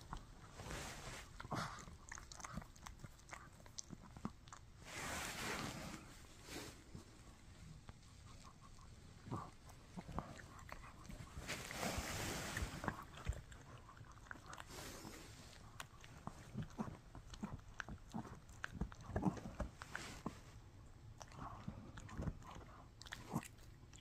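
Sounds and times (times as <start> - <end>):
dog chewing crunches: 0.0 - 4.8, 8.3 - 20.2, 21.2 - 24.0.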